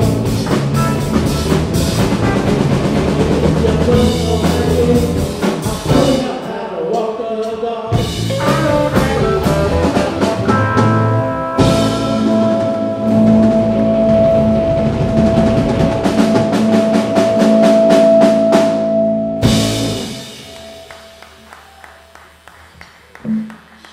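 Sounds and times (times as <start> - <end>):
live rock band playing: 0.0 - 6.6, 7.4 - 23.9.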